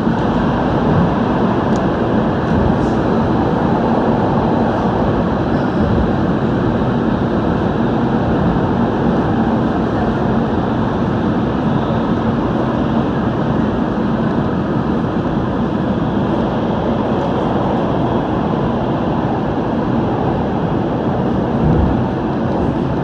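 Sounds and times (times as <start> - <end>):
metro train rumbling in tunnel: 0.0 - 23.0.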